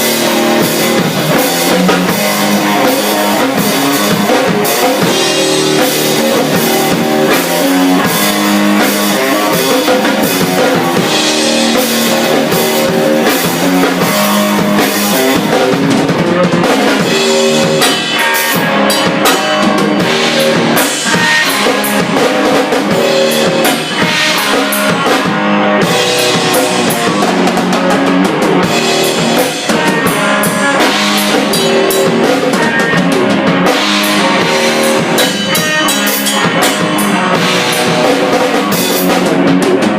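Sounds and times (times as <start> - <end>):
drum kit: 0.0 - 39.9
rock guitar chords and riffs: 0.0 - 39.9.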